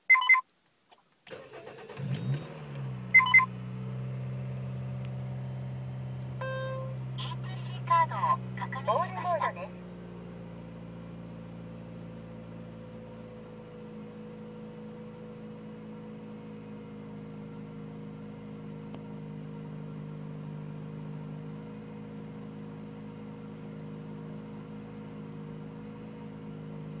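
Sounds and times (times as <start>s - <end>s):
car engine idling hum: 1.2s - 27.0s.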